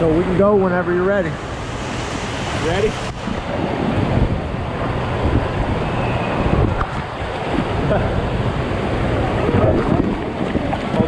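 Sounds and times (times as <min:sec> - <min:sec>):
echoing water park din: 0:00.0 - 0:11.0
water rushing down a slide: 0:01.9 - 0:11.0.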